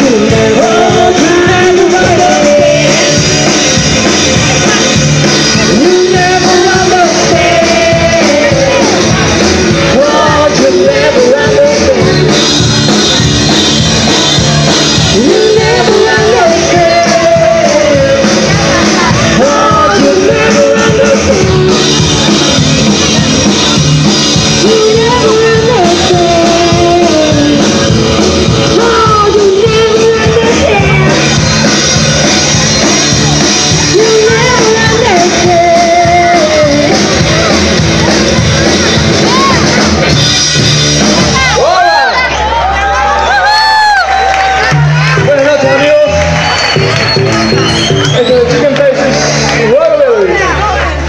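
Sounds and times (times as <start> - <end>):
sung vocals: 0.0 - 42.2
guitar: 0.0 - 51.0
live band playing loudly: 0.0 - 51.0.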